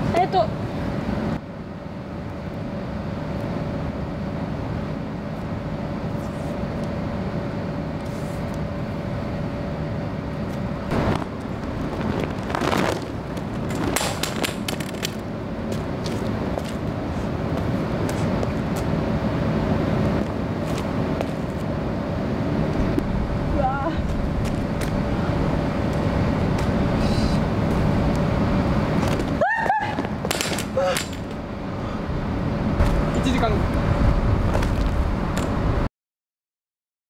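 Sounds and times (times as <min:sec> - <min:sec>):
distant traffic: 0:00.0 - 0:35.9.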